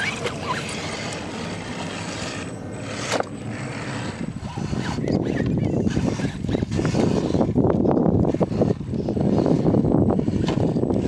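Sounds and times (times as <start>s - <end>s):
continuous mechanical hiss: 0.0s - 11.0s
small electric motor and gears: 0.0s - 11.0s.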